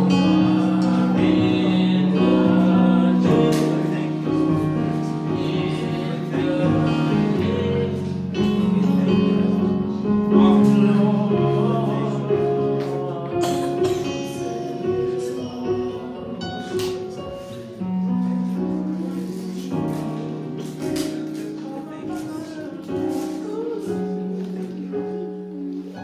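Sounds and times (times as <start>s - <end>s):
soft gospel worship music: 0.0s - 26.0s.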